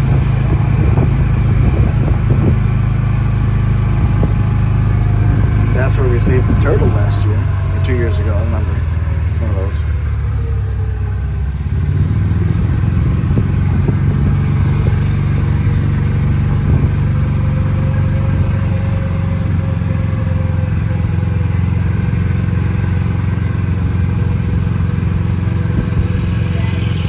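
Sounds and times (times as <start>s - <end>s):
car engine hum: 0.0s - 27.0s
road noise: 0.0s - 27.0s.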